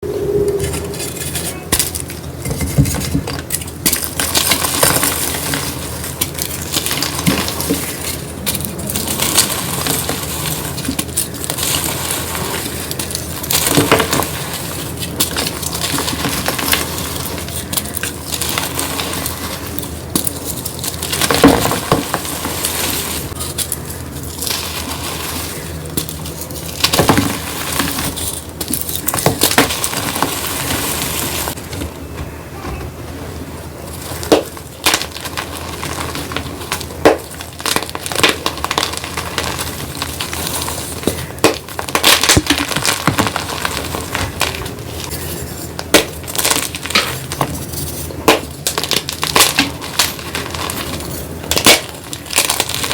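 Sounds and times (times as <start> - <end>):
chalk crunching and crackling: 0.8 - 31.6, 33.8 - 52.9.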